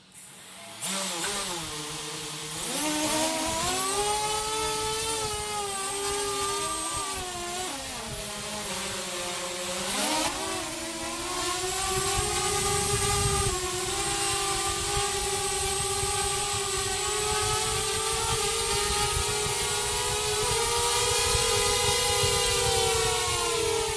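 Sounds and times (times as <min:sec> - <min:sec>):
drone propellers whining: 0:00.0 - 0:23.9.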